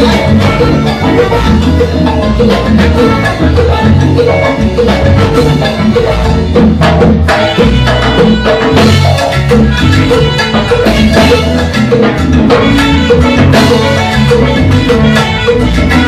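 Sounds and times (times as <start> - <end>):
instrumental salsa band music: 0.0 - 16.0.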